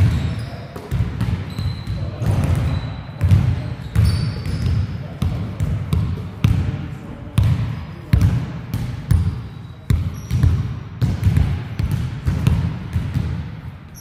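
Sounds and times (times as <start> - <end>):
basketball bouncing on hard court: 0.0 - 6.8, 7.4 - 13.7.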